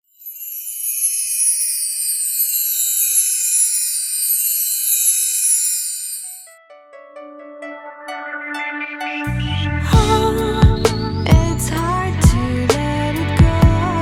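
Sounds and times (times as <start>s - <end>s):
shimmering chime-like sparkle: 0.0s - 12.3s.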